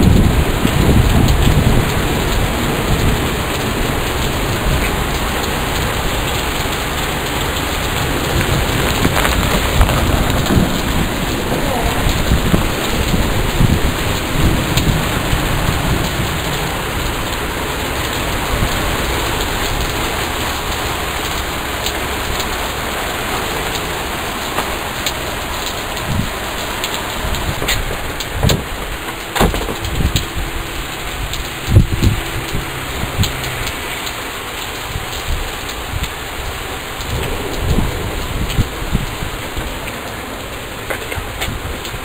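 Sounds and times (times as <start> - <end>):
heavy rain pouring: 0.0 - 42.0
thunder rumbling: 0.0 - 42.0.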